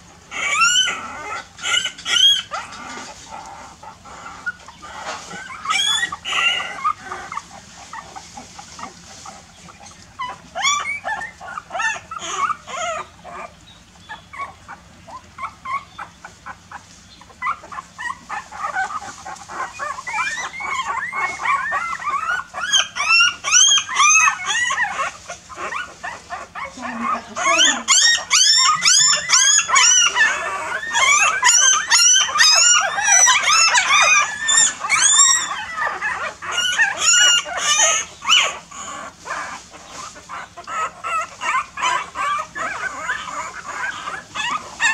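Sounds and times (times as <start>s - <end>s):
puppies whimpering and squealing: 0.0s - 44.9s.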